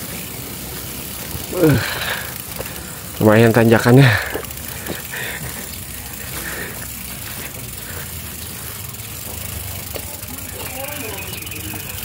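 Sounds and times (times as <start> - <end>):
bicycle freewheel ticking: 0.0 - 12.0.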